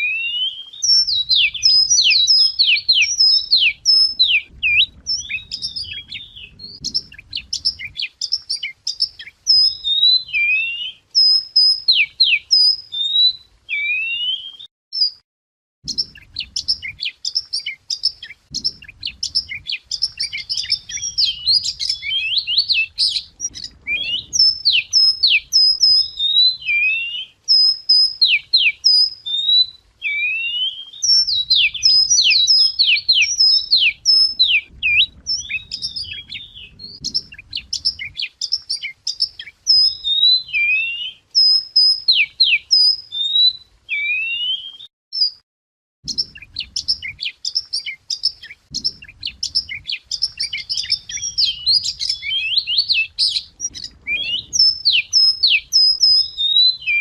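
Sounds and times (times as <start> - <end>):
bird song with whistles and trills: 0.0 - 15.2, 15.8 - 45.4, 46.0 - 57.0.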